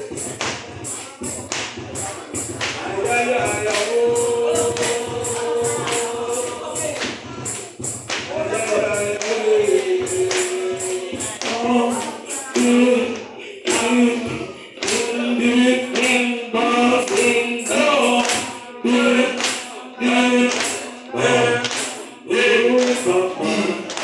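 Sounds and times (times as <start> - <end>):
hand percussion beat: 0.0 - 18.6, 20.4 - 21.0, 21.6 - 22.1, 22.7 - 24.0
congregation singing in chorus: 2.7 - 7.6, 8.2 - 24.0.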